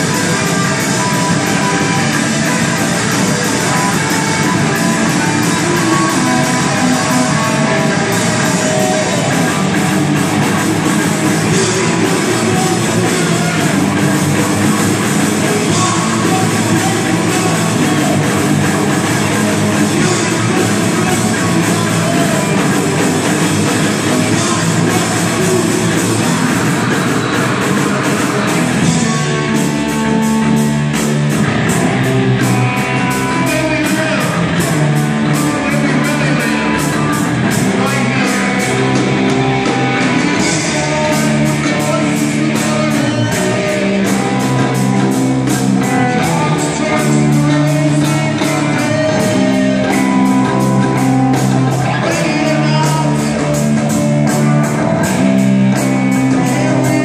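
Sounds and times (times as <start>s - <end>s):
drum kit with cymbals: 0.0s - 57.0s
electric guitars: 0.0s - 57.0s.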